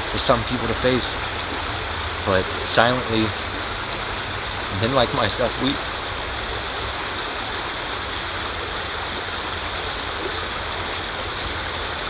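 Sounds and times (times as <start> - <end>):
steady rushing outdoor noise: 0.0 - 12.0.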